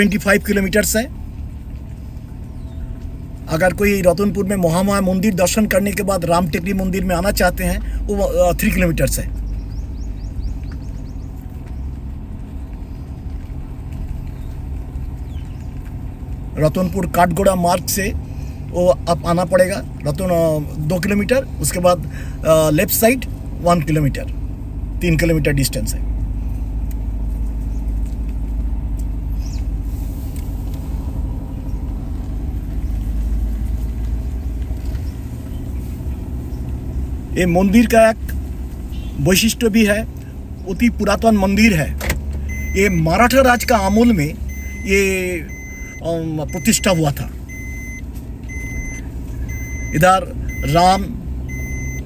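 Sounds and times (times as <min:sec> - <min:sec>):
low road rumble: 0:00.0 - 0:52.0
vehicle engine running: 0:00.0 - 0:52.0.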